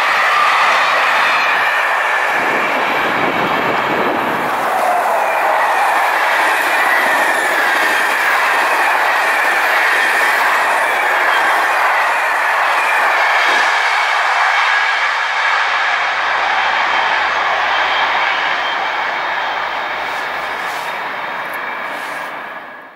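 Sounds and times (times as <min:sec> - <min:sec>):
train wheels rushing on rail: 0:00.0 - 0:22.9.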